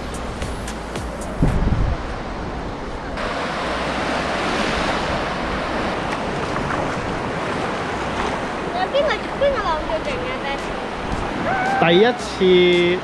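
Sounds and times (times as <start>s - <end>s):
surf hissing on beach: 0.0s - 13.0s
wind gust on microphone: 1.2s - 12.3s.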